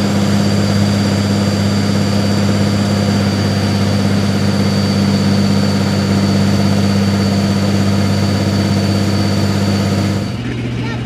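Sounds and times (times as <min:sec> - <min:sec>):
thin high whine: 0:00.0 - 0:10.4
diesel tractor engine idling: 0:00.0 - 0:10.5.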